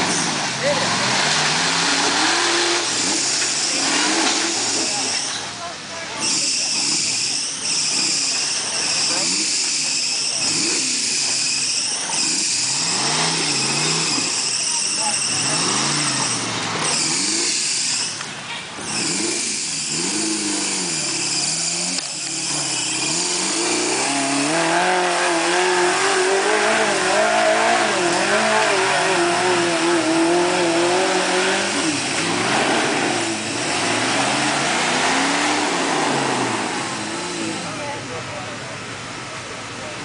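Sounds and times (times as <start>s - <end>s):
buggy engine revving: 0.0s - 40.0s.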